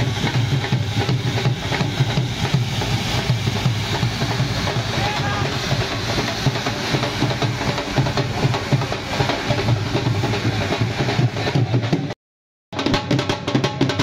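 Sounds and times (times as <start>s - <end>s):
fireworks hissing and crackling: 0.0s - 12.2s
drum beating steady rhythm: 0.0s - 14.0s.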